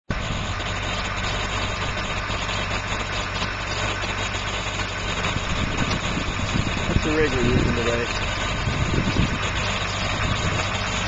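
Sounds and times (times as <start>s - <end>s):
tractor diesel engine idling: 0.1s - 11.0s.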